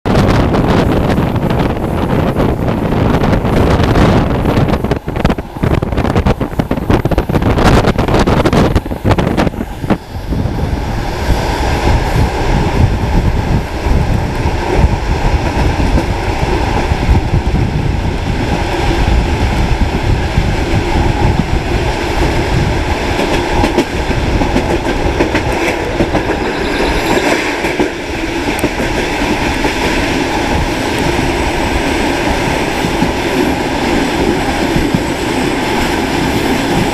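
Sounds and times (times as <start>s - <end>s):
steady train rumble: 0.0s - 36.9s
wind buffeting microphone: 0.0s - 36.9s.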